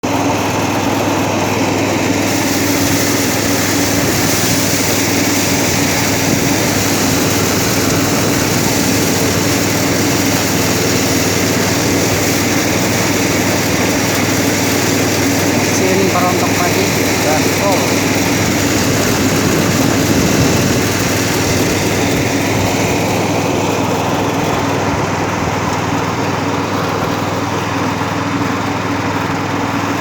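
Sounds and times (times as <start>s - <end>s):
rice thresher running: 0.0s - 30.0s.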